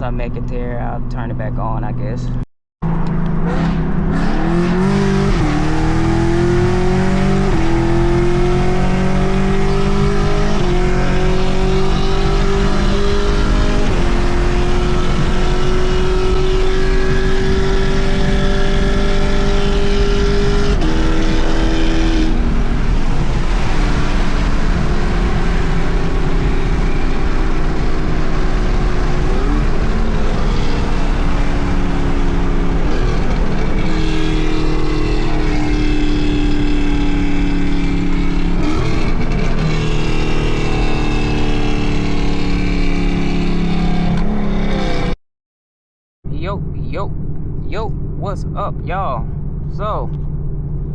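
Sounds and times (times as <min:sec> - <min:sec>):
car engine accelerating through gears: 0:02.8 - 0:45.2.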